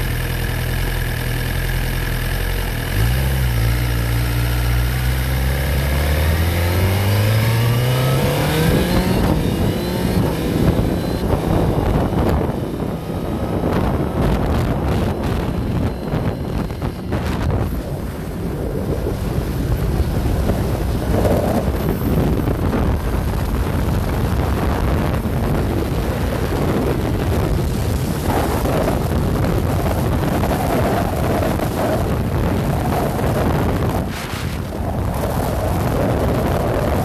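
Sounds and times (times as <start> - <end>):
motorcycle engine: 0.0 - 37.0
road noise: 0.0 - 37.0
wind buffeting microphone: 2.9 - 37.0.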